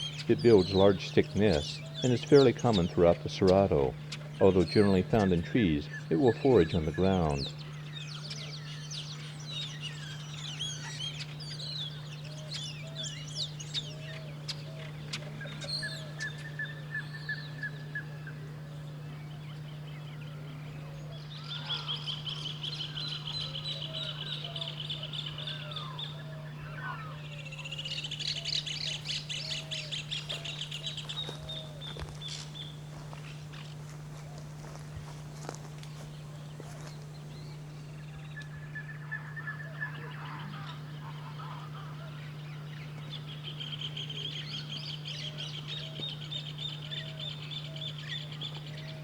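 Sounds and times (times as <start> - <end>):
steady low hum: 0.0 - 49.0
wild birds chirping and trilling: 0.0 - 49.0.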